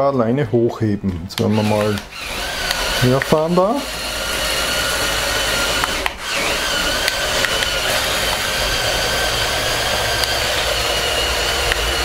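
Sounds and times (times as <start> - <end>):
electric motors and gears whining: 1.4 - 12.0.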